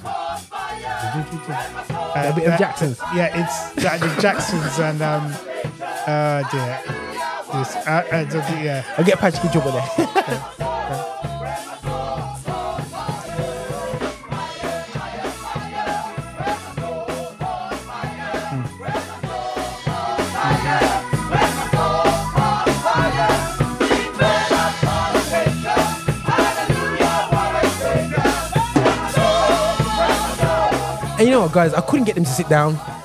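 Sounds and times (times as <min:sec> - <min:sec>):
drum kit beat: 0:00.0 - 0:33.0
gospel choir singing: 0:00.0 - 0:33.0
bass guitar line: 0:00.8 - 0:05.4, 0:09.4 - 0:33.0.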